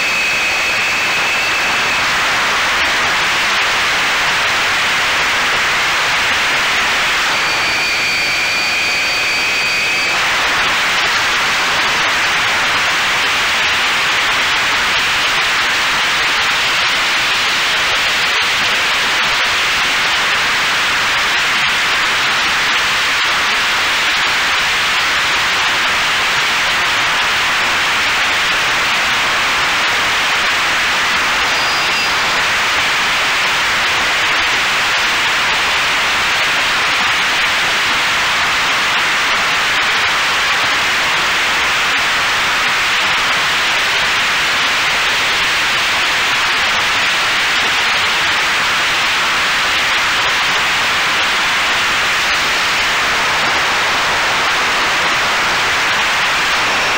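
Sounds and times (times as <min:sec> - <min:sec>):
steady static hiss: 0:00.0 - 0:56.9.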